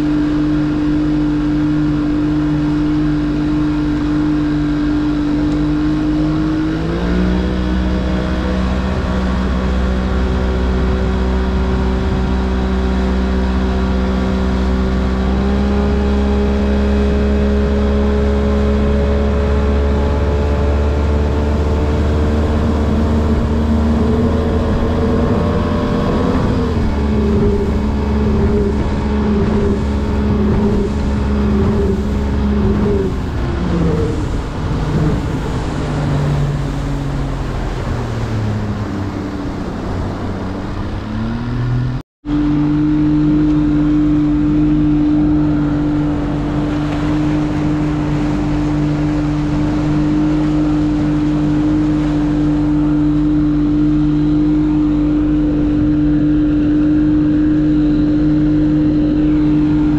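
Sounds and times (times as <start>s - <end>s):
outboard motor running: 0.0s - 59.9s
water noise: 0.0s - 59.9s
wind noise: 0.0s - 59.9s.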